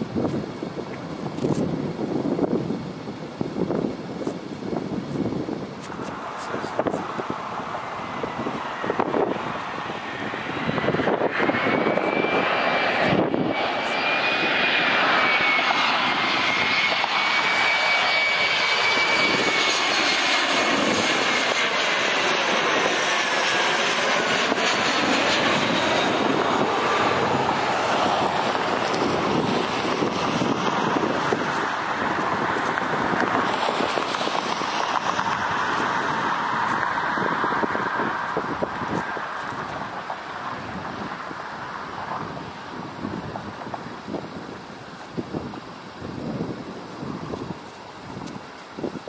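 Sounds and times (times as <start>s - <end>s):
high engine whine: 0.0s - 49.0s
jet engines roaring: 0.0s - 49.0s.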